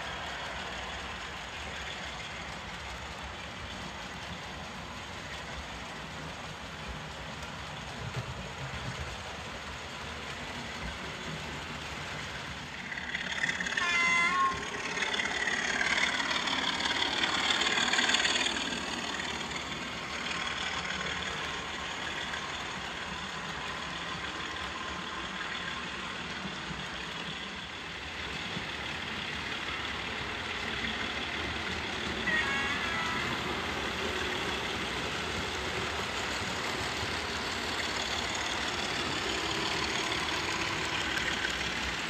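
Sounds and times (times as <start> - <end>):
model train running rumble: 0.0 - 42.0.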